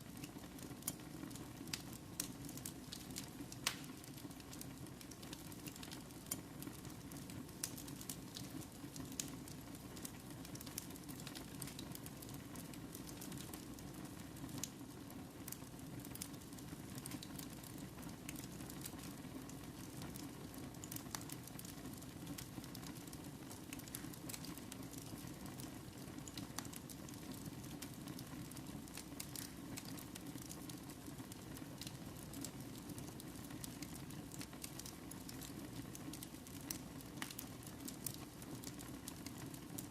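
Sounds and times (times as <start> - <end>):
fire crackles and pops: 0.0 - 39.9
wood fire hiss and rumble: 0.0 - 39.9.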